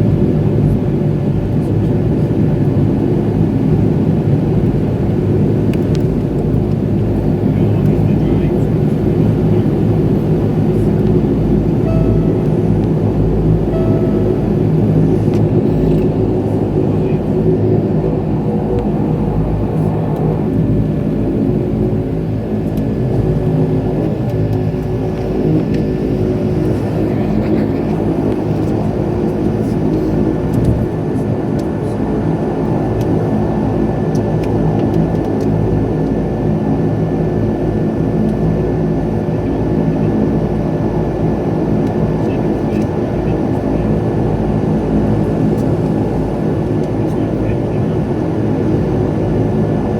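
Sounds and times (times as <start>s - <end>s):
turboprop engines droning: 0.0s - 49.9s.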